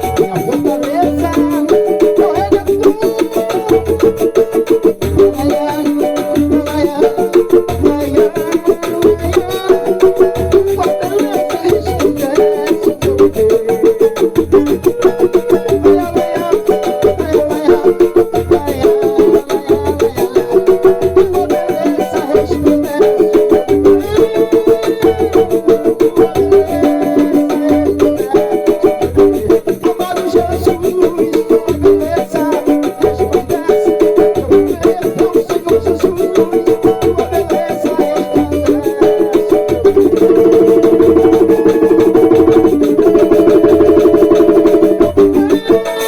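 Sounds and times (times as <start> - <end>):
banjo picking fast notes: 0.0 - 46.0.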